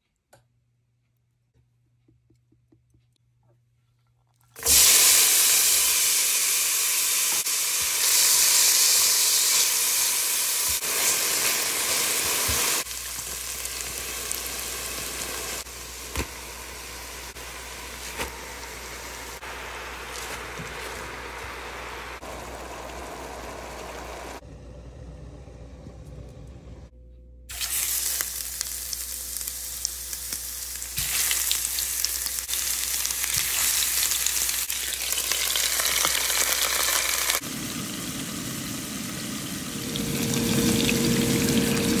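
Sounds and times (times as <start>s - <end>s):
fish sizzling in oil: 4.6s - 24.4s, 27.5s - 42.0s.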